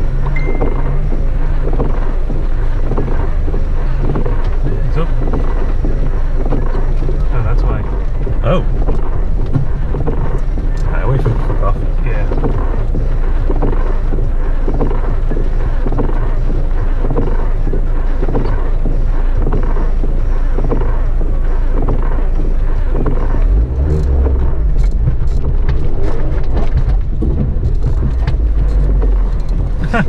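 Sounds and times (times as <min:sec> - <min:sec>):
engine and tyre rumble: 0:00.0 - 0:30.0
vehicle knocks and rattles: 0:00.0 - 0:30.0.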